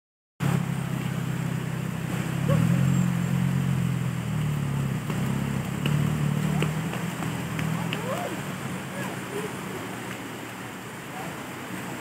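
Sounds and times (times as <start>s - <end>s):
car engine humming: 0.4s - 12.0s.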